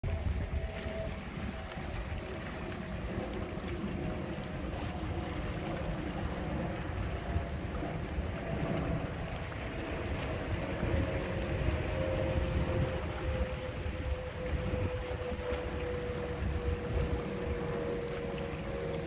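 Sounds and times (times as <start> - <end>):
washing water: 0.0 - 19.0
wind rumbling on microphone: 0.0 - 19.0.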